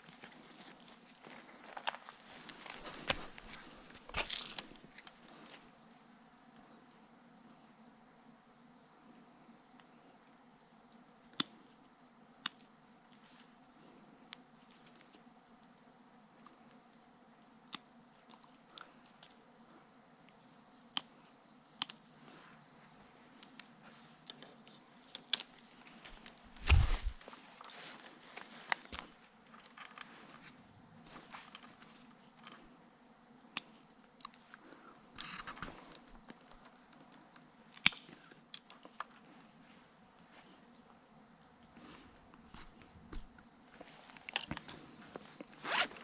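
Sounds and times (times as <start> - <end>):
insects chirping: 0.0 - 46.0
constant high whine: 8.5 - 46.0.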